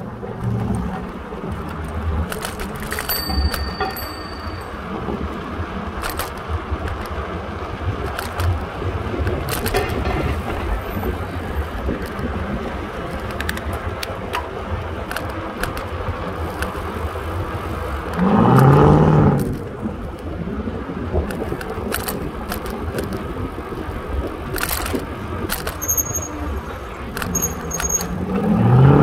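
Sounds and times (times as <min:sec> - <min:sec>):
rattles and clicks: 0:00.0 - 0:05.3, 0:05.9 - 0:07.3, 0:08.0 - 0:17.0, 0:21.2 - 0:29.0
wind buffeting microphone: 0:00.0 - 0:27.4
road rumble: 0:00.0 - 0:29.0.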